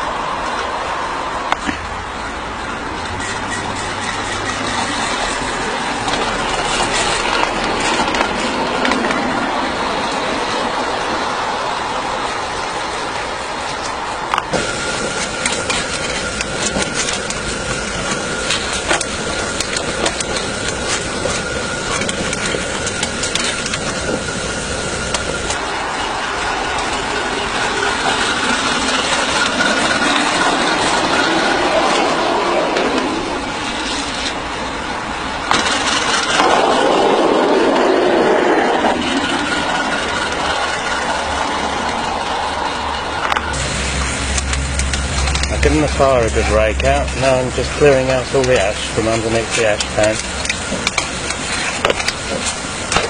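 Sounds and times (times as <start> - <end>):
steam locomotive running: 0.0 - 53.0.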